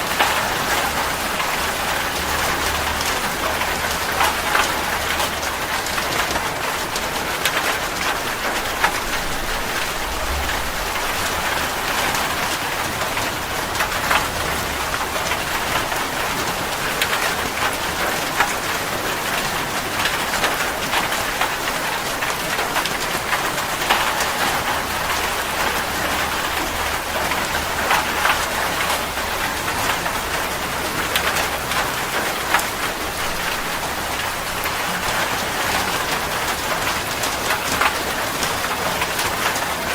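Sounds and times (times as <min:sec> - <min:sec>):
raindrop ticks: 0:00.0 - 0:39.9
steady rainfall hiss: 0:00.0 - 0:39.9.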